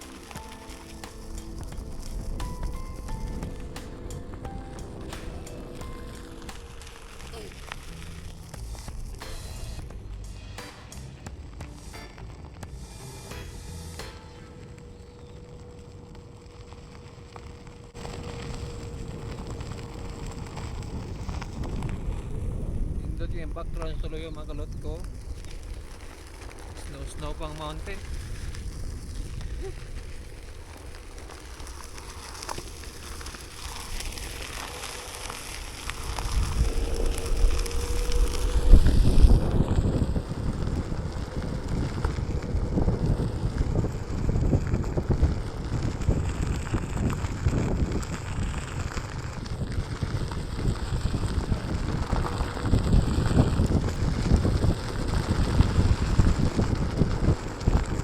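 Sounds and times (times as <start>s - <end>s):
wind buffeting microphone: 0.0s - 12.6s, 14.4s - 58.0s.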